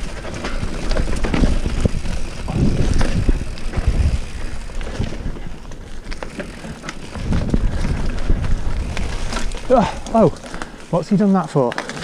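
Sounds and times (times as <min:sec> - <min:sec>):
bike knocks and rattles: 0:00.0 - 0:12.0
bike tyres rumbling over dirt: 0:00.0 - 0:12.0.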